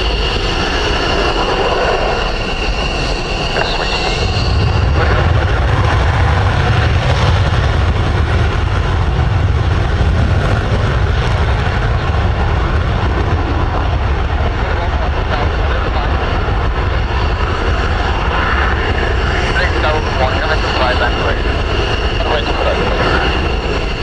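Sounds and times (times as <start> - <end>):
jet taking off with afterburner: 0.0 - 24.0
jet turbine whine: 0.0 - 24.0.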